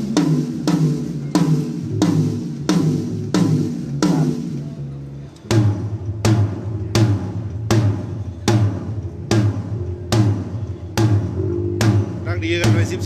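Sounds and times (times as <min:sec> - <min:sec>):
amplified drum booming: 0:00.0 - 0:04.6, 0:05.5 - 0:13.0.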